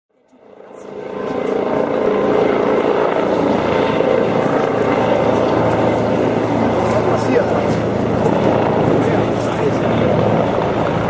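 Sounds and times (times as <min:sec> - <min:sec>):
helicopter flying overhead: 0:00.1 - 0:11.0.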